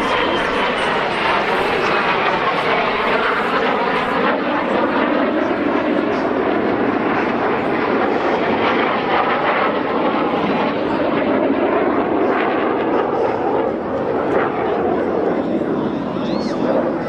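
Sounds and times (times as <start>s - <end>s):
jet aircraft engine: 0.0s - 17.0s.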